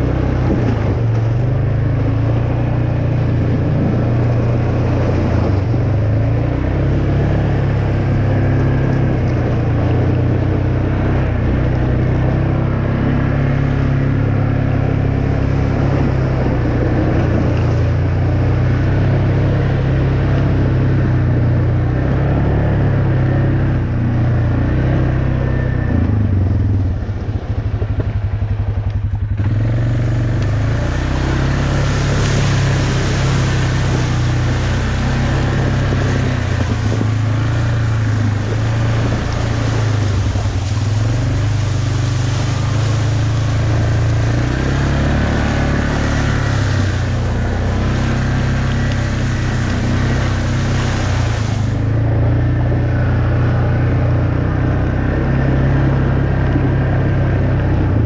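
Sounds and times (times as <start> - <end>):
off-road vehicle engine: 0.0 - 58.0.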